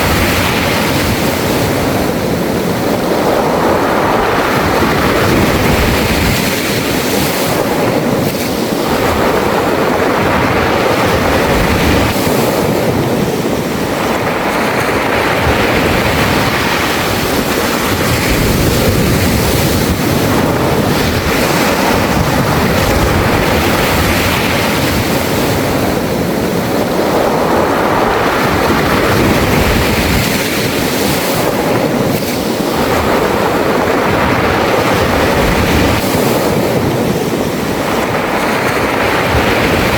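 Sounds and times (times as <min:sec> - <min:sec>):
sea waves washing over pebbles: 0:00.0 - 0:39.9.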